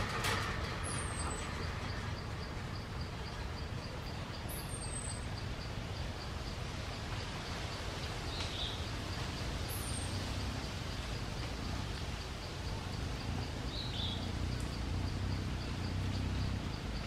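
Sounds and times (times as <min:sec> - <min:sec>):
insect chirping: 0:00.0 - 0:17.0
low rumble and hiss: 0:00.0 - 0:17.0.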